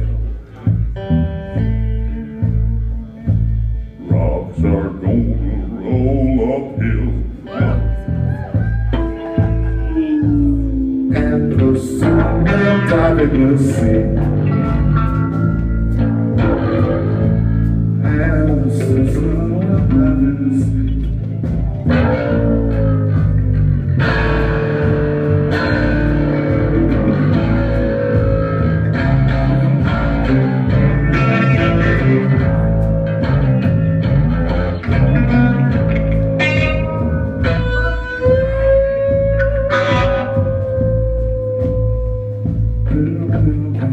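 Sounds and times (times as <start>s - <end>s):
electric guitar lines: 0.0s - 43.9s
pulsing bass: 0.0s - 43.9s.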